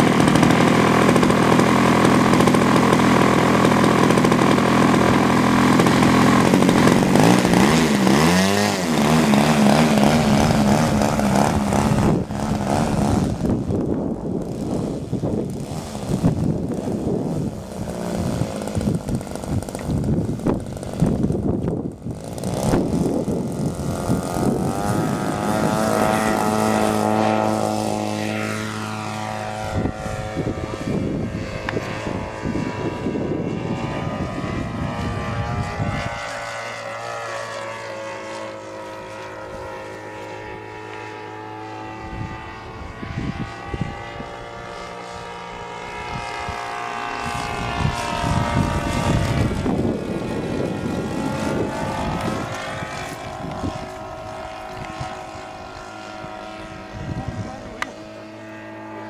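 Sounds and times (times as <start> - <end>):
model aeroplane engine: 0.0 - 59.0.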